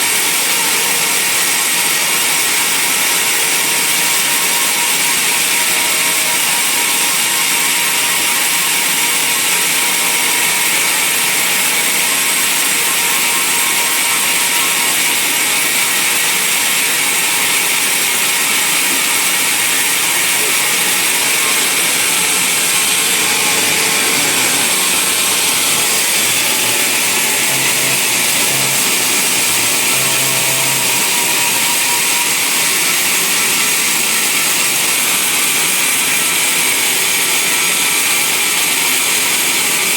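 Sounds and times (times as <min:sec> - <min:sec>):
band saw sawing through log: 0:00.0 - 0:36.6.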